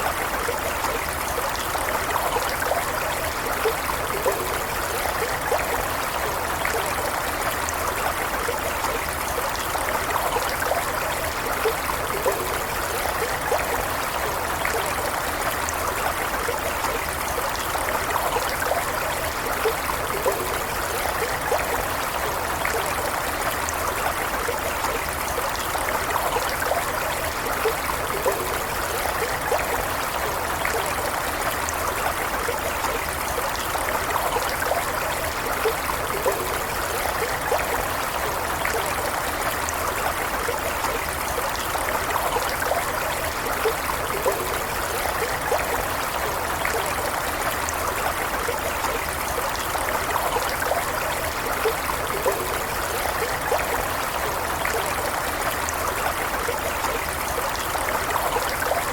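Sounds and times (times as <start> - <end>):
small stream trickling: 0.0 - 58.9.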